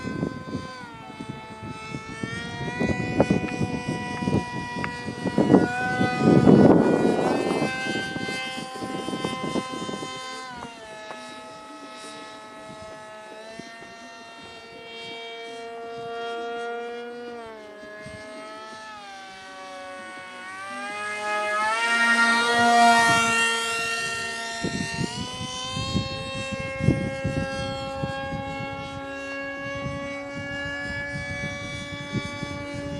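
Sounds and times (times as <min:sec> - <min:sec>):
electric motor whining: 0:00.0 - 0:32.9
wind rumble on microphone: 0:00.0 - 0:32.9.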